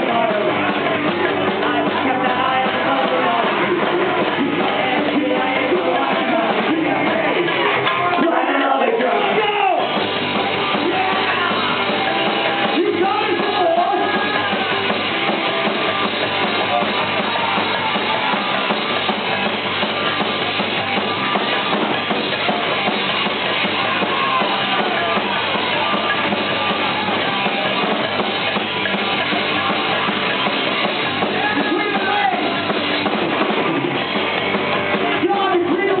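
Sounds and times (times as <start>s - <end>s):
rock music with drums and singing: 0.0s - 36.0s.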